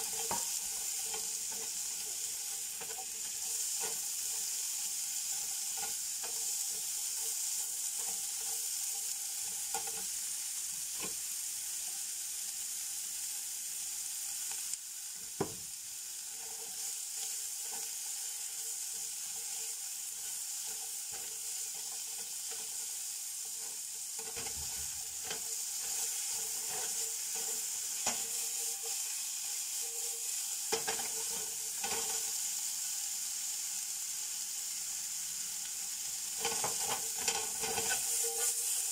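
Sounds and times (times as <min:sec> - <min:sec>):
spatula scraping and tapping pan: 0:00.0 - 0:12.1, 0:14.5 - 0:32.5, 0:36.3 - 0:38.9
vegetables sizzling in oil: 0:00.0 - 0:38.9.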